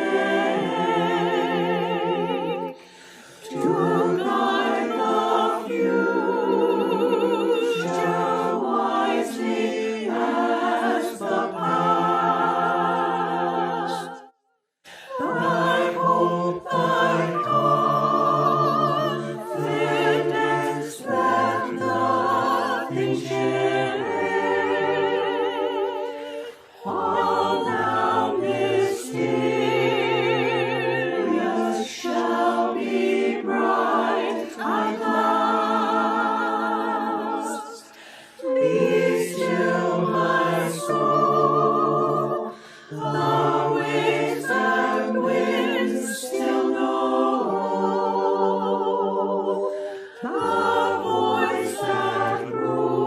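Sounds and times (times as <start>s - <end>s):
choir singing unaccompanied: 0.0s - 53.0s.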